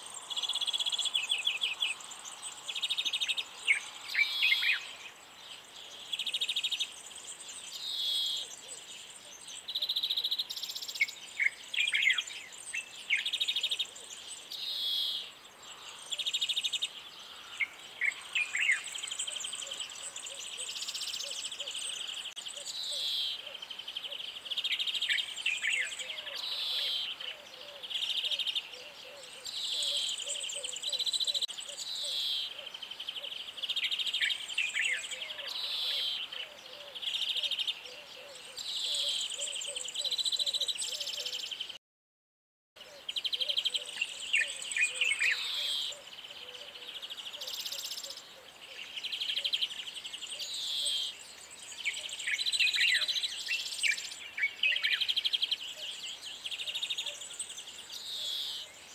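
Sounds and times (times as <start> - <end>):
birds trilling and chirping: 0.0 - 41.8, 42.8 - 58.9.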